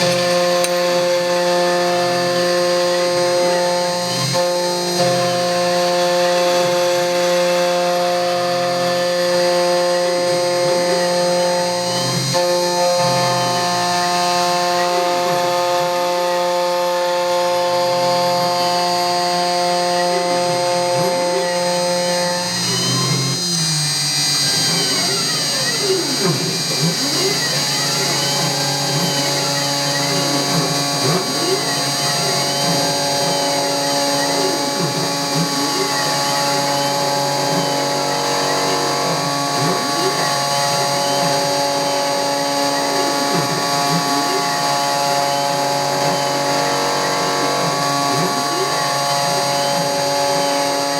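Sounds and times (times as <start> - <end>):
cnc machine motor whine: 0.0 - 50.9.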